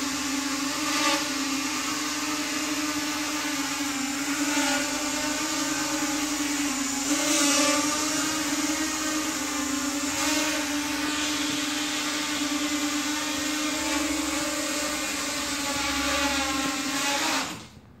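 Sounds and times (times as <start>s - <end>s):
quadcopter motors buzzing whine: 0.0s - 17.8s.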